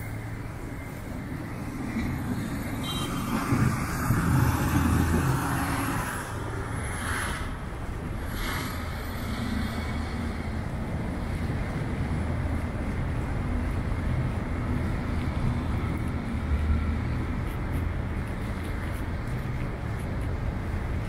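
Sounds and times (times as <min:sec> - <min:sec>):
vehicle engine rumble passing: 0:00.0 - 0:21.0.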